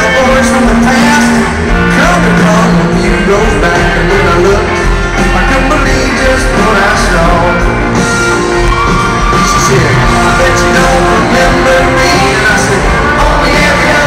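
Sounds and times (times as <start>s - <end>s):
amplified band music: 0.0s - 14.0s
singer performing: 0.0s - 14.0s.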